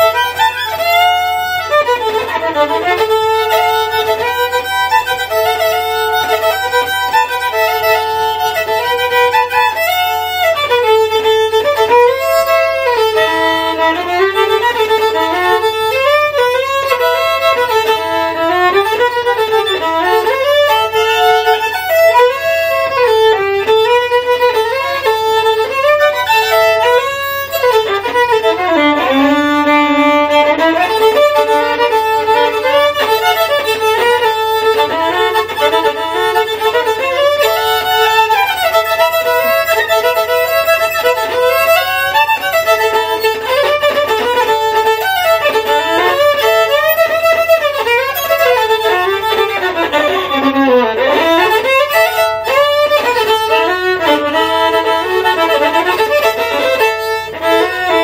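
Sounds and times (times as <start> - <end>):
solo fiddle melody: 0.0 - 58.0.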